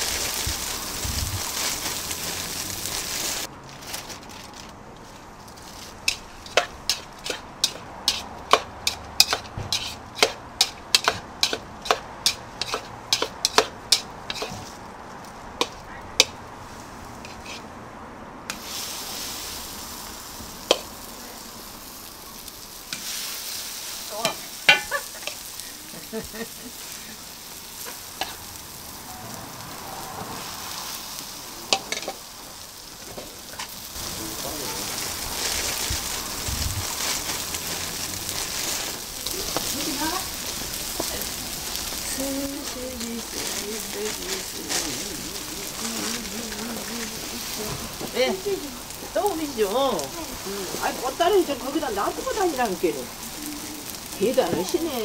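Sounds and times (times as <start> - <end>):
batter sizzling on griddle: 0.0 - 17.8, 18.4 - 55.0
oil sizzling on griddle: 0.0 - 17.8, 18.4 - 55.0.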